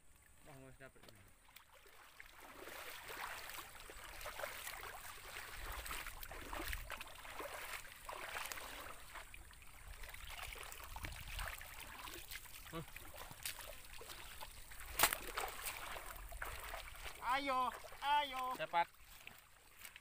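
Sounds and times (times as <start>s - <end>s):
pond water splashing: 0.0s - 20.0s.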